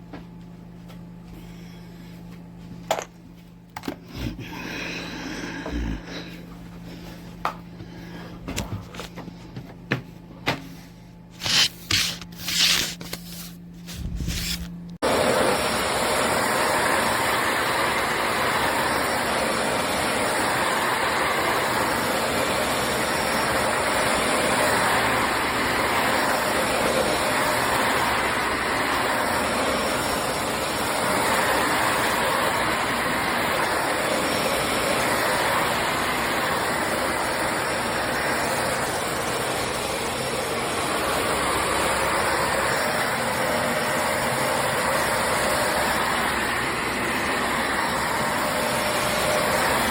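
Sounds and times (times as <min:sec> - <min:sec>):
vacuum cleaner motor running: 0:03.8 - 0:49.9.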